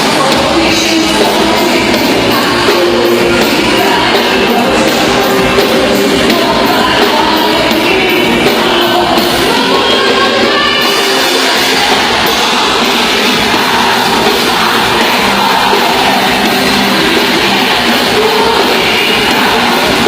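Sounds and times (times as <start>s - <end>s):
rock worship song with singing: 0.0s - 20.0s.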